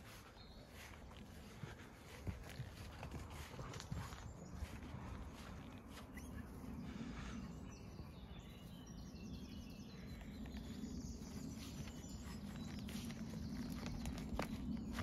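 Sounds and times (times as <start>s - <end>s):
birds singing: 0.0s - 15.0s
low outdoor rumble: 0.0s - 15.0s.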